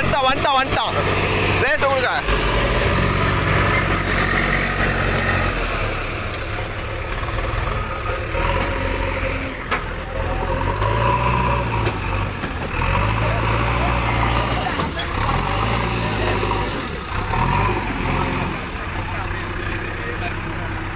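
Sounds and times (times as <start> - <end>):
diesel engines under load: 0.0 - 20.9.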